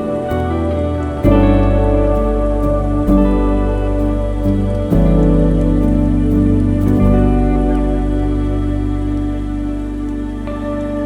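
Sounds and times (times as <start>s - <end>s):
deep bass: 0.0s - 11.0s
music with sustained tones: 0.0s - 11.0s.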